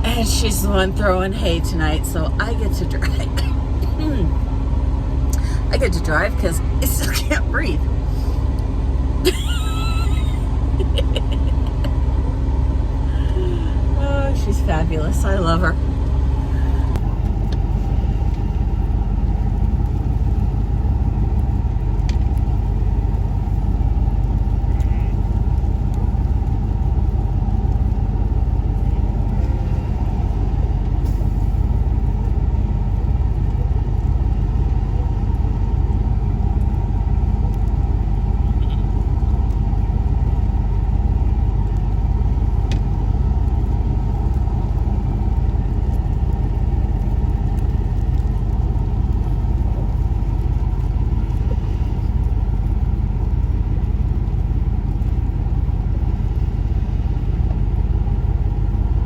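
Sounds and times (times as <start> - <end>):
pickup truck engine rumbling: 0.0 - 59.0.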